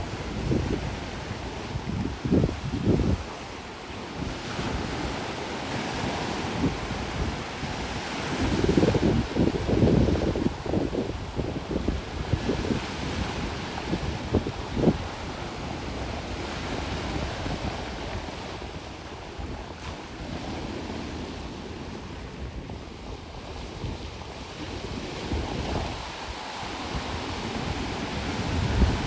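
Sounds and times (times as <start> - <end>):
sea waves washing on shore: 0.0 - 29.0
wind buffeting microphone: 0.0 - 29.0.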